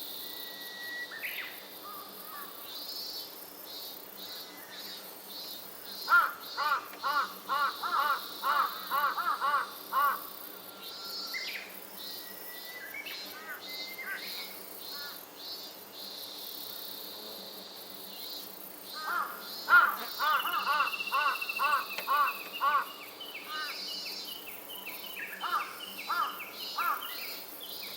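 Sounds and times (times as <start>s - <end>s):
cicada singing: 0.0s - 27.9s.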